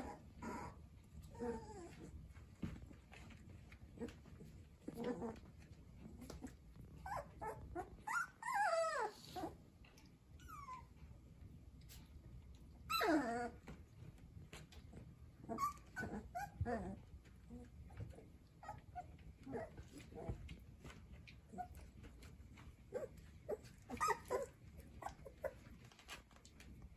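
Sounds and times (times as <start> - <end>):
puppies whining and yipping: 0.0 - 11.1, 12.8 - 26.4.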